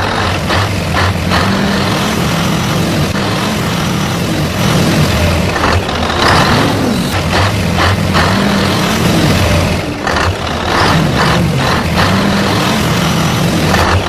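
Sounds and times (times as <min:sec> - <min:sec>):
heavy truck engine revving: 0:00.0 - 0:14.0.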